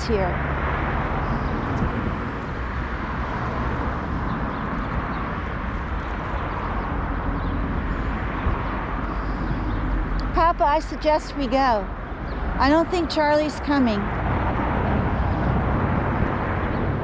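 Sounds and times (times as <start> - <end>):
vehicle traffic rushing: 0.0 - 17.0.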